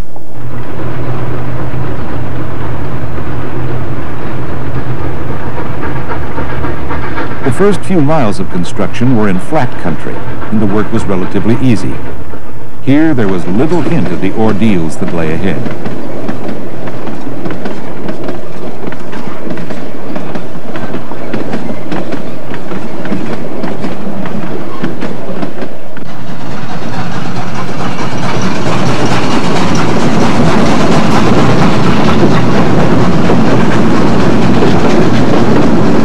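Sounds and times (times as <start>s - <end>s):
rumble of moving train: 0.0s - 36.0s
train wheels clicking over rail joints: 4.6s - 36.0s.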